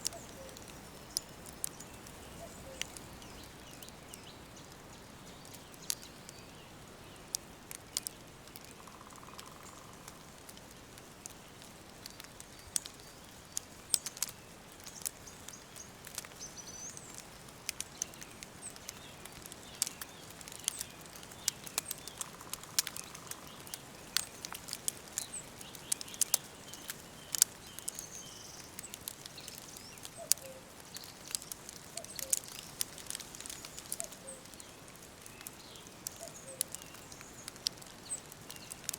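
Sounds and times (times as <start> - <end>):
small birds chirping: 0.0 - 38.9
wood fire crackling: 0.0 - 38.9.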